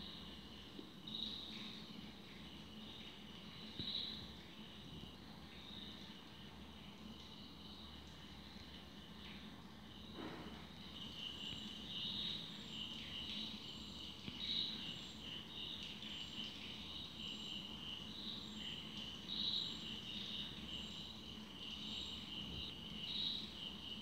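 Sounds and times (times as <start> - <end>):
crickets chirping: 0.0 - 24.0
faint low hum: 0.0 - 24.0.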